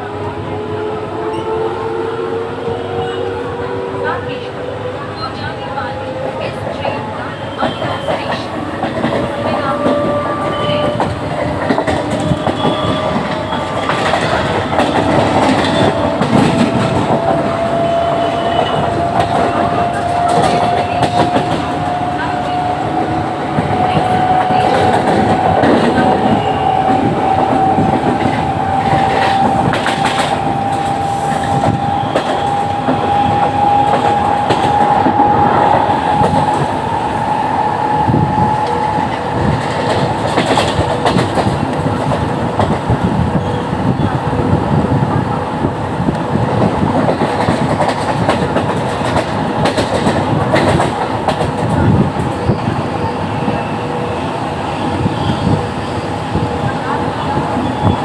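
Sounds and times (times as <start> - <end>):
train wheels clacking: 5.4 - 58.0.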